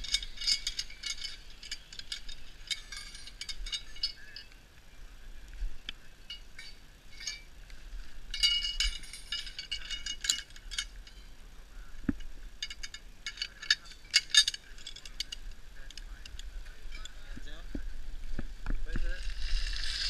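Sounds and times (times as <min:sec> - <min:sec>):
metal carabiners clinking: 0:00.0 - 0:04.6, 0:05.5 - 0:17.8.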